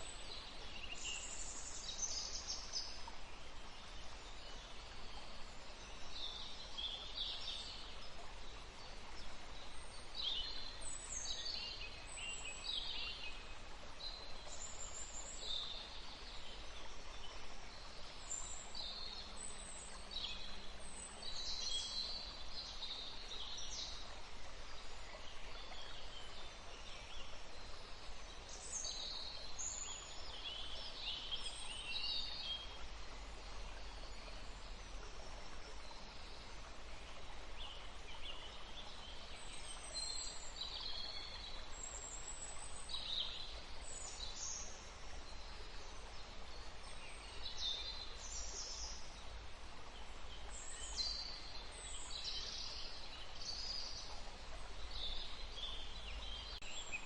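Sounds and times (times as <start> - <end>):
songbirds chirping: 0.0 - 57.0
stream running: 0.0 - 57.0.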